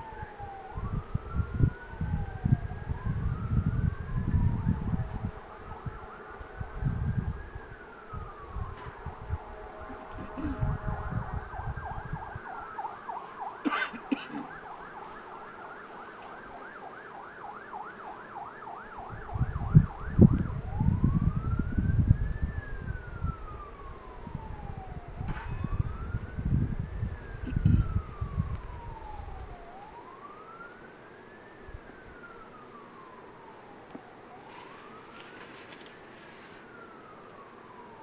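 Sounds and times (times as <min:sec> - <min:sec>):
emergency siren wailing and yelping: 0:00.0 - 0:38.0.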